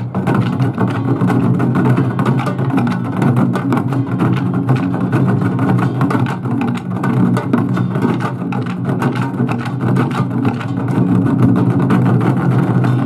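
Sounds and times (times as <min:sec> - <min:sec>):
drum ensemble beating fast: 0:00.0 - 0:13.0.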